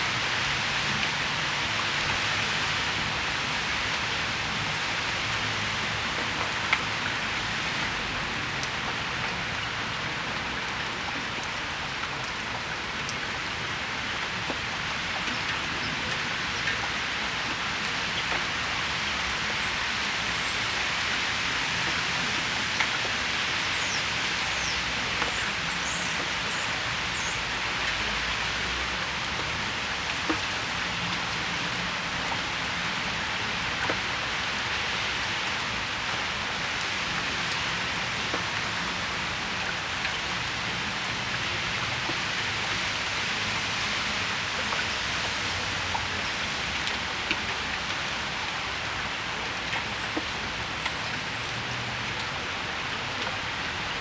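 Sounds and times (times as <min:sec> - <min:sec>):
rain falling on patio: 0:00.0 - 0:54.0
water drips: 0:01.7 - 0:53.9.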